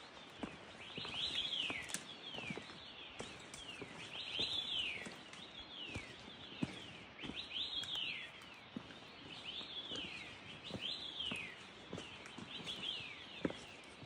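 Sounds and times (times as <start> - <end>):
footsteps on a trail: 0.0 - 14.0
birds whistling: 0.3 - 14.0.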